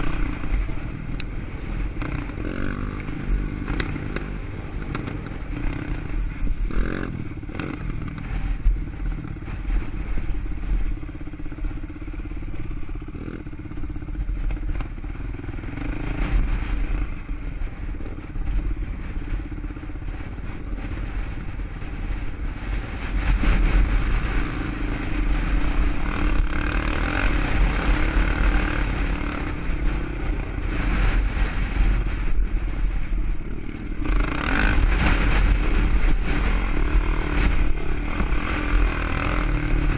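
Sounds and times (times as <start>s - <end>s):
atv engine revving: 0.0s - 39.9s
steady low rumble: 0.0s - 39.9s.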